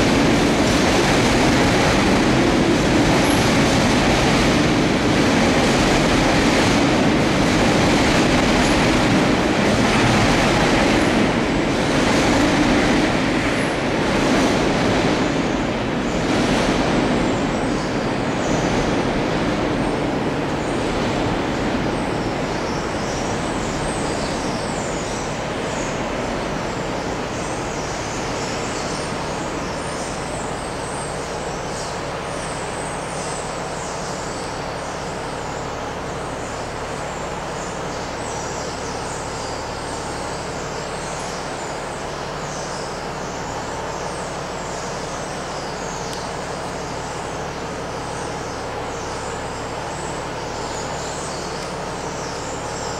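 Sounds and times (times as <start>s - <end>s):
freight train rumbling on rails: 0.0s - 52.9s.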